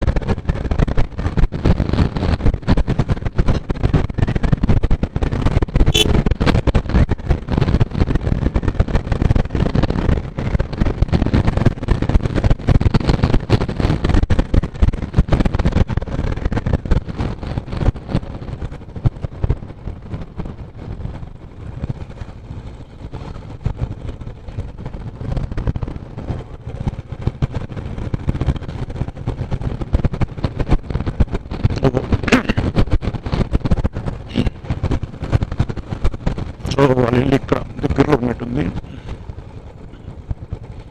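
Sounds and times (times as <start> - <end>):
motorcycle rumble: 0.0 - 40.9
wind buffeting microphone: 0.0 - 40.9.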